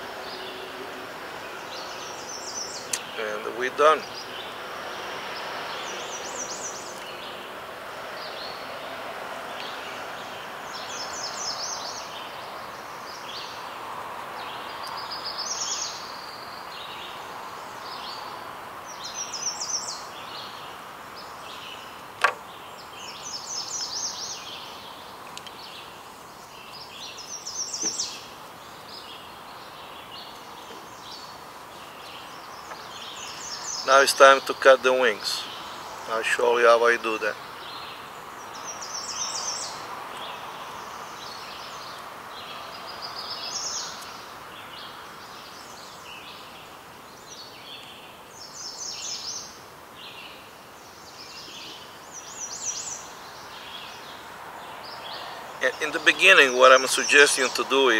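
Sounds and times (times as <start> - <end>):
outdoor background hiss: 0.0 - 57.9
songbird chirping: 0.0 - 57.9.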